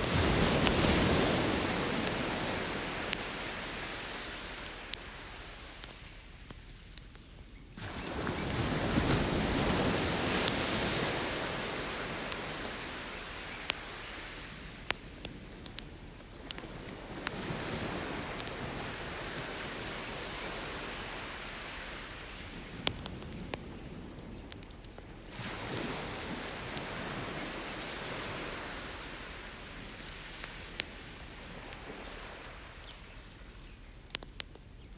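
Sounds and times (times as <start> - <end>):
ocean waves washing onto beach: 0.0 - 6.8, 7.8 - 34.6
campfire crackling: 0.0 - 34.9.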